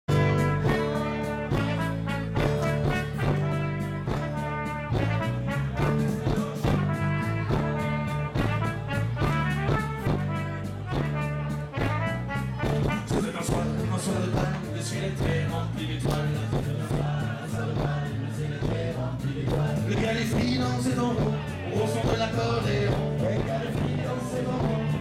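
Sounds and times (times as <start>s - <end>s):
bass guitar: 0.0s - 25.0s
live band playing dance music: 0.1s - 25.0s.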